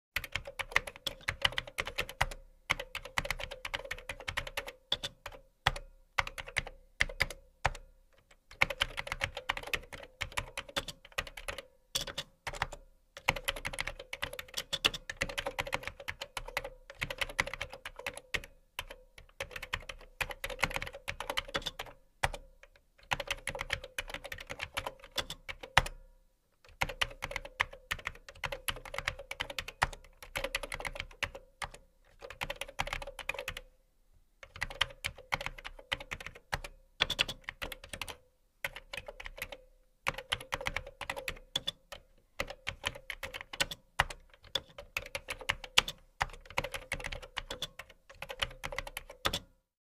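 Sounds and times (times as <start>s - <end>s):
keyboard typing clicks: 0.2s - 26.0s, 26.7s - 33.7s, 34.4s - 49.5s.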